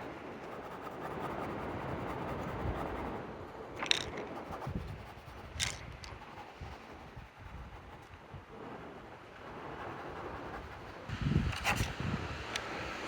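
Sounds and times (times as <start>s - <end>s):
drawing tool scratching on paper: 0.4s - 3.3s, 4.2s - 11.9s.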